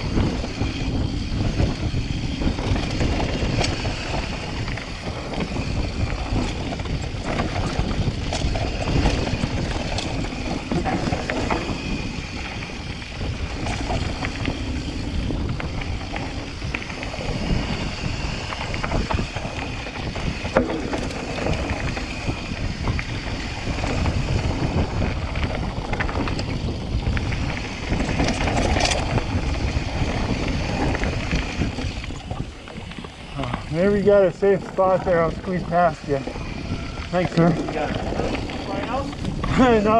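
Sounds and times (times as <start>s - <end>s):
mountain bike rattling on dirt: 0.0s - 39.9s
wind buffeting microphone: 0.0s - 39.9s.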